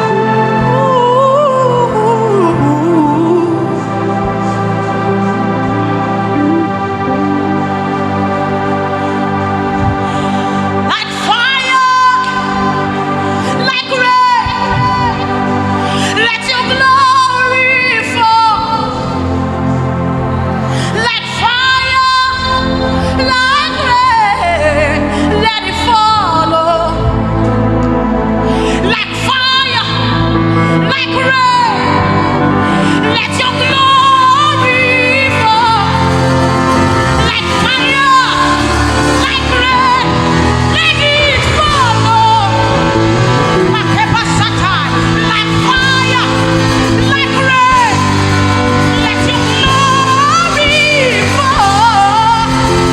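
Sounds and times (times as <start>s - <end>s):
woman singing gospel song: 0.0s - 19.8s, 20.4s - 52.9s
band playing sustained chords: 0.0s - 52.9s
instrumental accompaniment: 0.0s - 52.9s.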